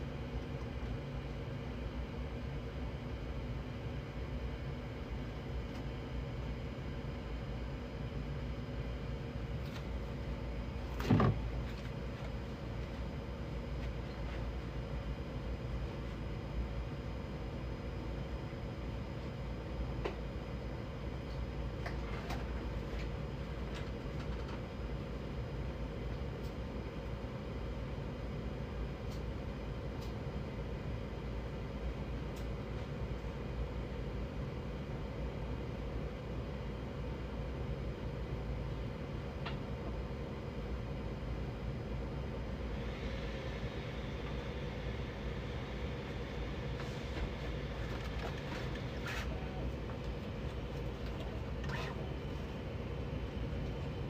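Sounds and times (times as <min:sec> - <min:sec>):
printer fans and motors humming: 0:00.0 - 0:54.0.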